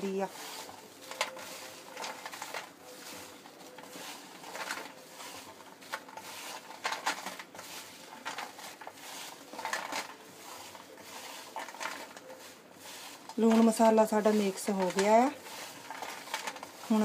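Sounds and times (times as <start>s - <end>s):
fries rattling on metal plate: 0.0s - 17.0s.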